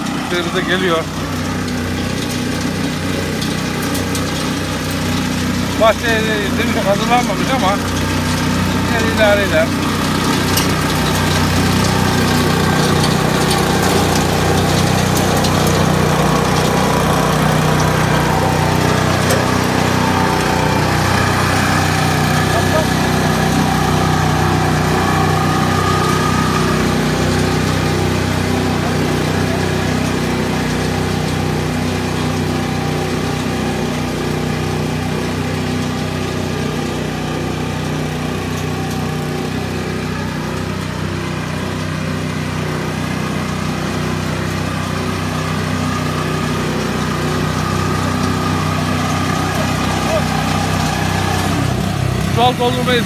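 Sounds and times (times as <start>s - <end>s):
harvester engine droning: 0.0s - 53.0s.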